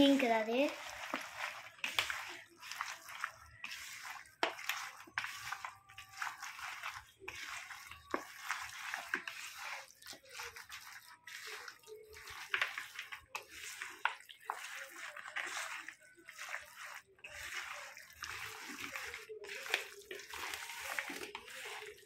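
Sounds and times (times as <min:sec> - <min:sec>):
hand kneading wet raw meat: 0:00.0 - 0:22.0.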